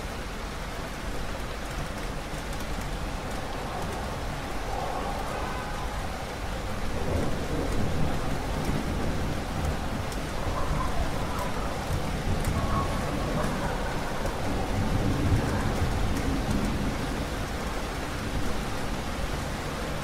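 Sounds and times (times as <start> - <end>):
steady rain falling: 0.0 - 20.0
thunder rumbling: 1.2 - 20.0.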